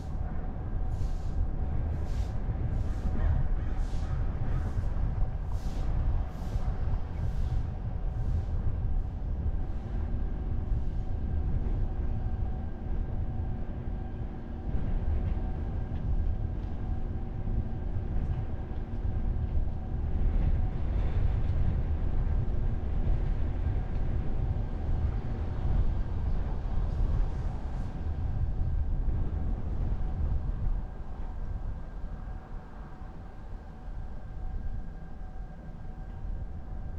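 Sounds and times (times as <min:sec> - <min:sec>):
road and engine rumble: 0:00.0 - 0:36.9.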